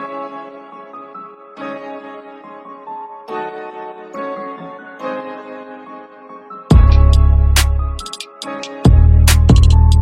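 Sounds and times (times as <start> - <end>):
soft sustained backing music: 0.0 - 10.0.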